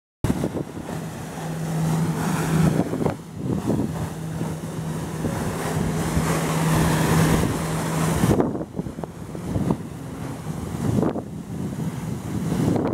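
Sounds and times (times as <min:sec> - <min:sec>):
rushing water: 0:00.2 - 0:12.9
watercraft engine running: 0:00.2 - 0:12.9
wind buffeting microphone: 0:00.2 - 0:12.9.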